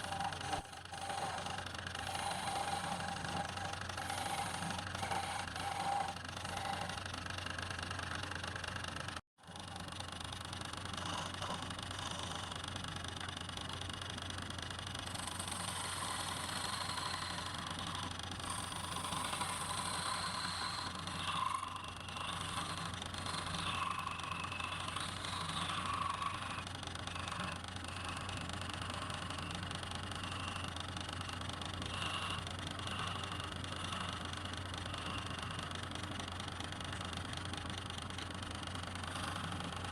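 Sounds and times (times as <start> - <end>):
turning tool cutting wood: 0.0 - 39.9
wood lathe motor hum: 0.0 - 39.9.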